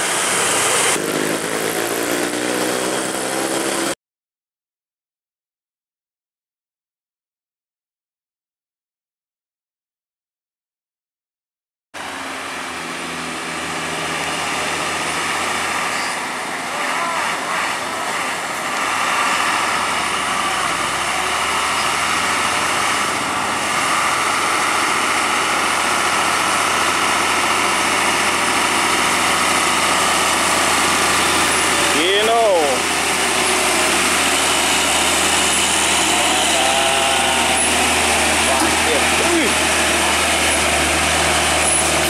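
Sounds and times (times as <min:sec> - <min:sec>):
truck diesel engine under load: 0:00.0 - 0:04.0, 0:12.0 - 0:42.0.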